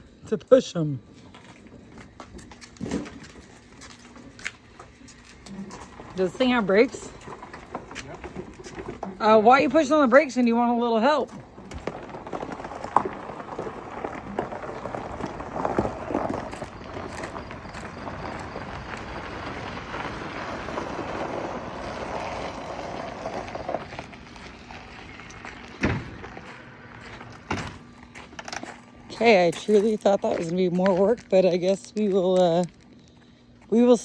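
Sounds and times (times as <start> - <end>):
vehicle rolling and scuffing: 1.0 - 34.0.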